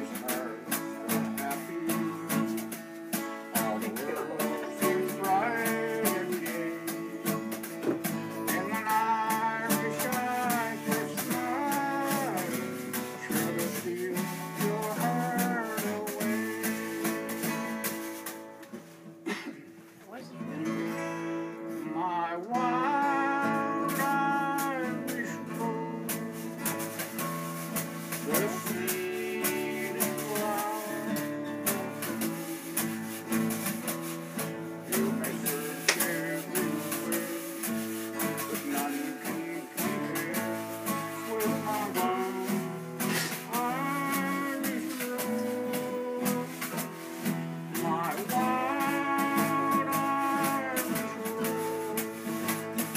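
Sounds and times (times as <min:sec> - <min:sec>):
acoustic guitar strumming folk tune: 0:00.0 - 0:52.9.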